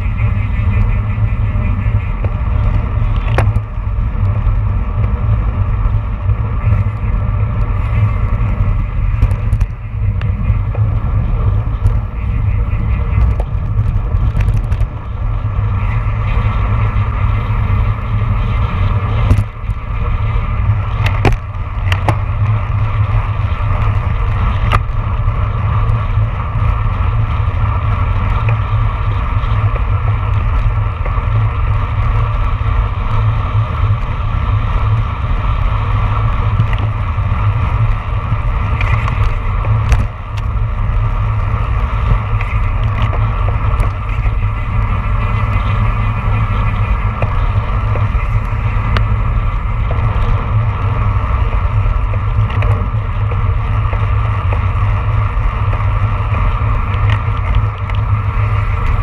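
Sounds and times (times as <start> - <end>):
tyre and road noise: 0.0 - 59.0
wind rushing over microphone: 0.0 - 59.0.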